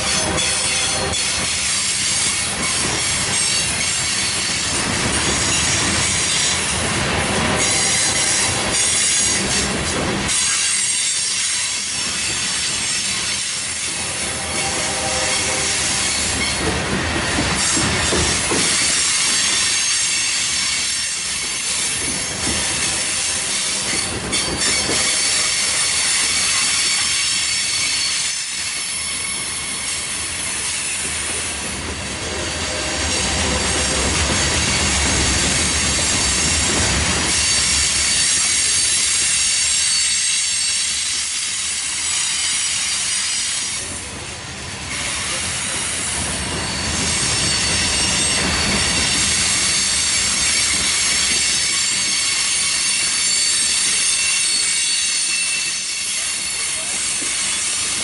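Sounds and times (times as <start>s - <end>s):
high wheel squeal: 0.0s - 6.8s, 7.6s - 31.5s, 32.2s - 44.0s, 44.9s - 58.0s
train wheels rumbling on rails: 0.0s - 58.0s.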